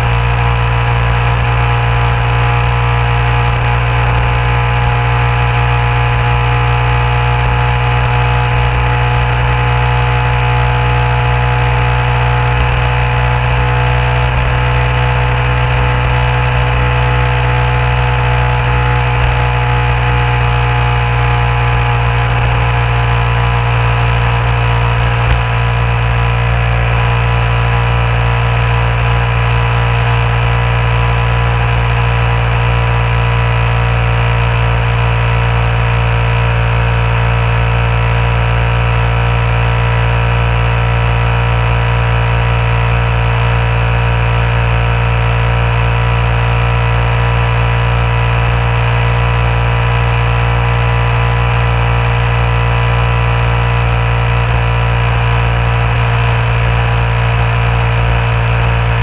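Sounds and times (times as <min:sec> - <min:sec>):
road noise: 0:00.0 - 0:46.3, 0:52.3 - 0:59.0
vehicle engine humming: 0:00.0 - 0:59.0.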